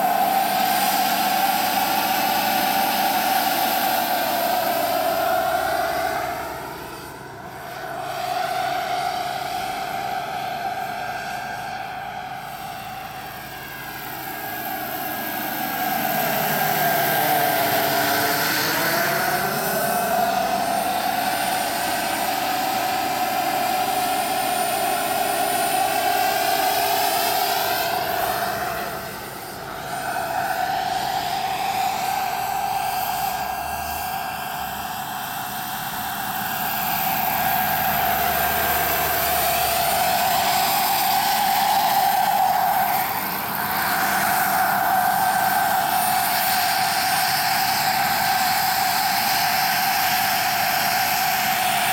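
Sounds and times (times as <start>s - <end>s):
rotor rushing: 0.0s - 49.4s
model helicopter turbine whine: 0.0s - 51.9s.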